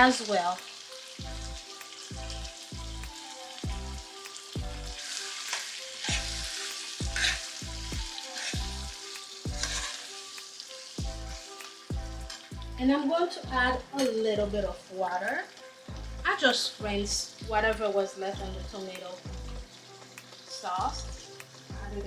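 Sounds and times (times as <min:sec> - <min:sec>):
background music with beat: 0:00.0 - 0:22.0
food sizzling in a pot: 0:00.0 - 0:22.0.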